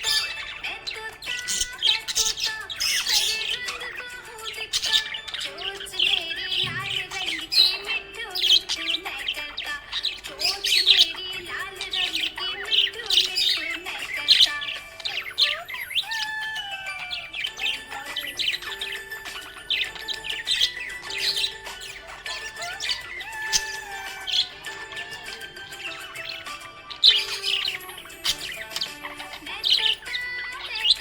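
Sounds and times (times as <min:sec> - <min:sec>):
budgies chirping and warbling: 0:00.0 - 0:31.0
music with held notes: 0:00.0 - 0:31.0.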